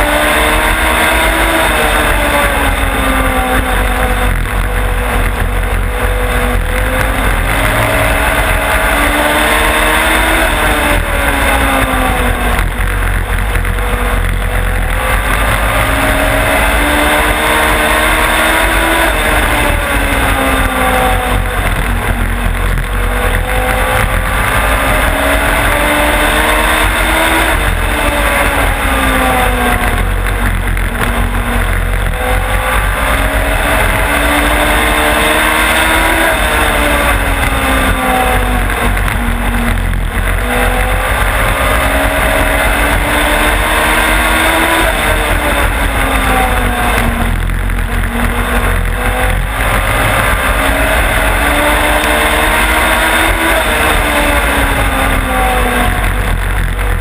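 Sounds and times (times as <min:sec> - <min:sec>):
race car engine revving: 0:00.0 - 0:57.0
steady rushing noise: 0:00.0 - 0:57.0.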